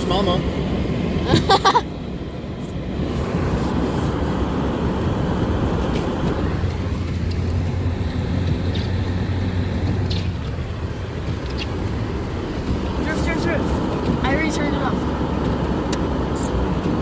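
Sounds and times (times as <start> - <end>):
low engine hum: 0.0 - 17.0
truck engine and tyres: 0.0 - 17.0.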